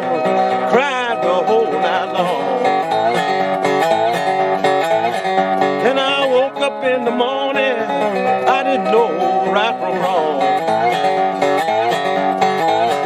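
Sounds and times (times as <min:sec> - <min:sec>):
guitar music with sliding notes: 0:00.0 - 0:13.0.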